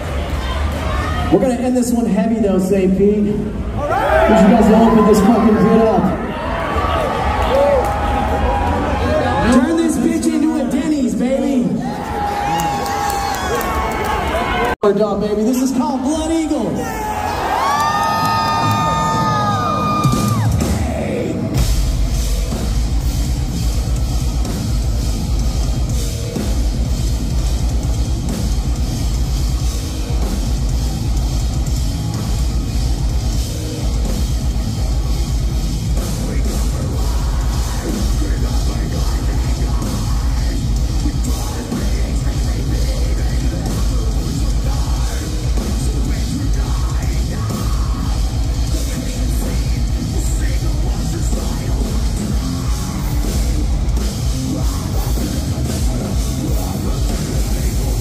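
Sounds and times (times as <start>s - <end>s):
heavy metal band playing: 0.0s - 12.5s, 16.8s - 58.0s.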